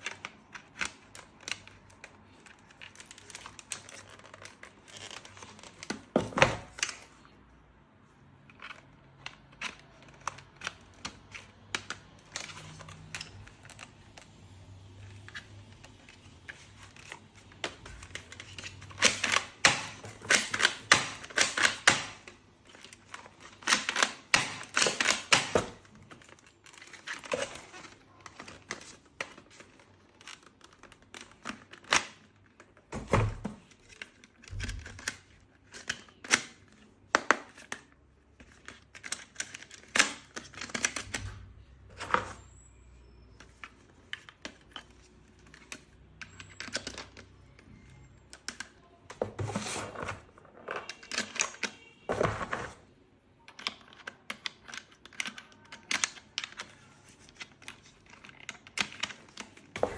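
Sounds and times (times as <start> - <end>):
packaging clicks and rustles: 0.0 - 7.4, 8.2 - 59.9.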